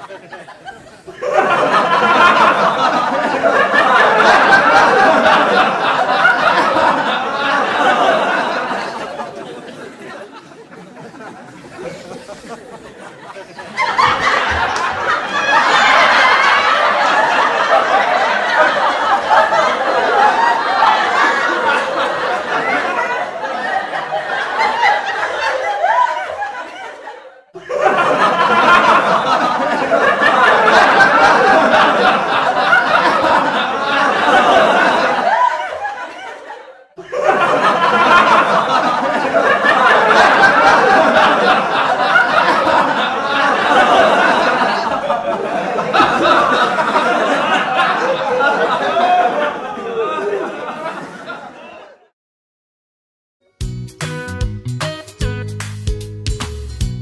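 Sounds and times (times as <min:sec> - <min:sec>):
audience laughter: 0:00.0 - 0:52.2.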